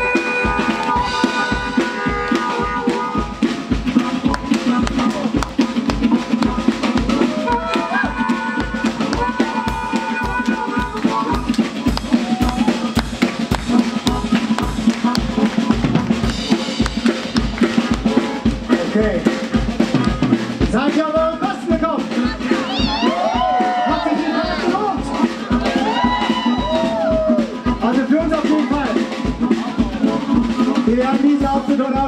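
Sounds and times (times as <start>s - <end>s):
harmonica wailing: 0.0s - 16.8s, 22.0s - 31.2s
drum kit: 0.0s - 32.0s
steady kick drum beat: 0.0s - 32.0s.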